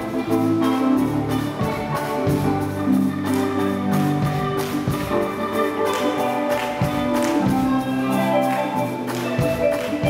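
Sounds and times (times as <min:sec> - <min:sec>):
percussion hits: 0:00.0 - 0:10.0
sustained keyboard chords: 0:00.0 - 0:10.0.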